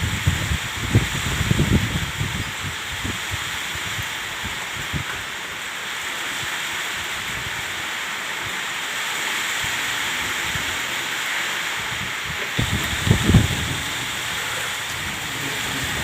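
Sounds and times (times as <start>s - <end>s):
floodwater rushing: 0.7s - 16.0s.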